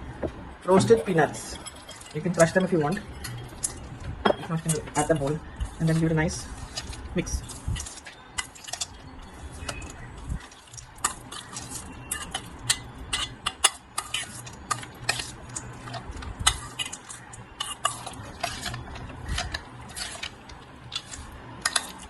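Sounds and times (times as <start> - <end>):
utensils scraping a bowl: 0.7 - 22.0.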